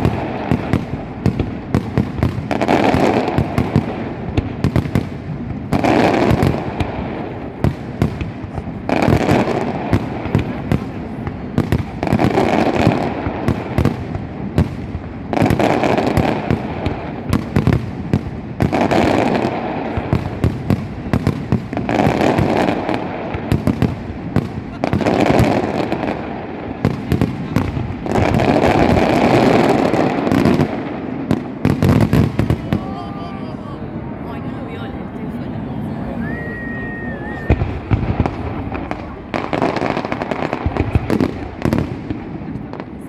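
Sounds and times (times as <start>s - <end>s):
fireworks barrage of bangs: 0.0s - 43.0s.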